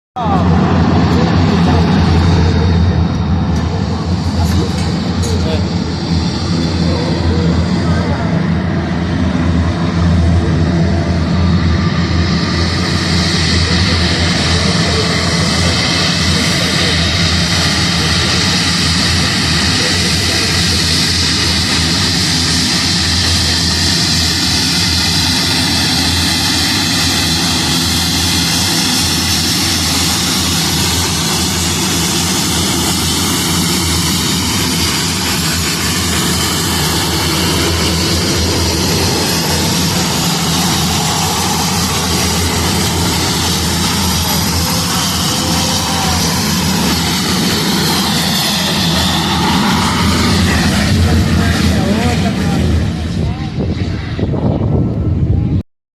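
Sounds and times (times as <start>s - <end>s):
propeller aircraft engines droning: 0.2s - 55.6s.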